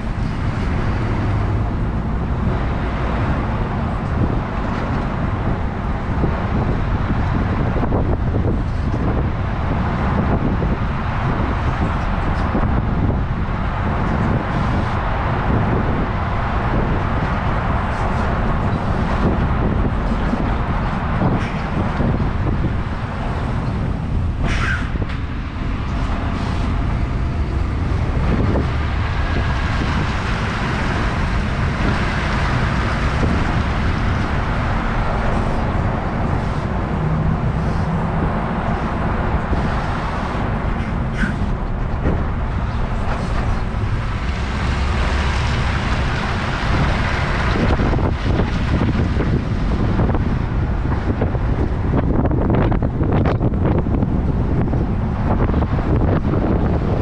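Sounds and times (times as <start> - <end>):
truck engine rumble: 0.0 - 57.0
wind over microphone: 0.0 - 57.0.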